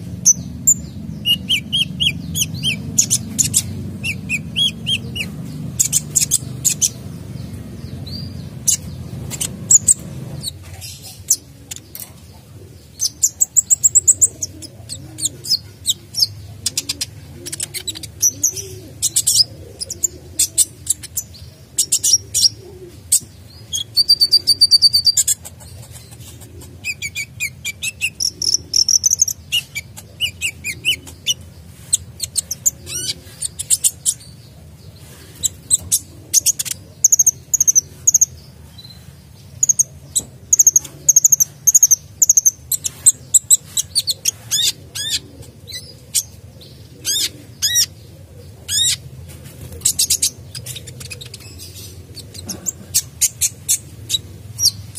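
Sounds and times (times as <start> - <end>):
sunbird singing: 0.0 - 54.9.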